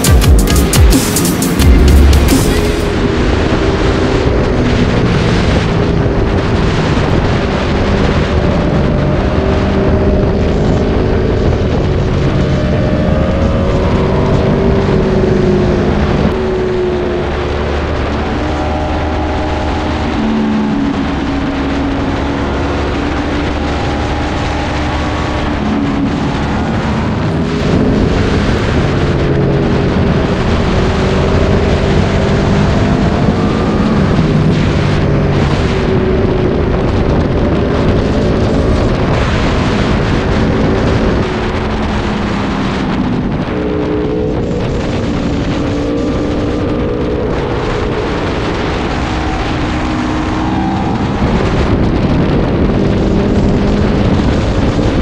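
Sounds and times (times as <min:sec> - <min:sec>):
motorcycle engine revving: 0:00.0 - 0:55.0
road and wind noise: 0:00.0 - 0:55.0.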